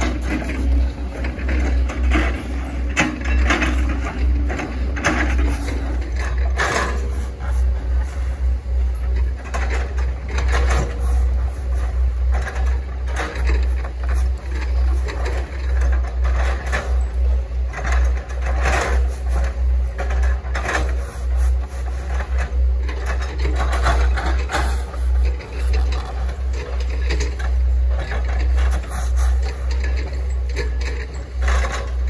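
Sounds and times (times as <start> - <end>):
excavator diesel engine rumbling: 0.0 - 32.0
mechanical clatter: 0.0 - 32.0.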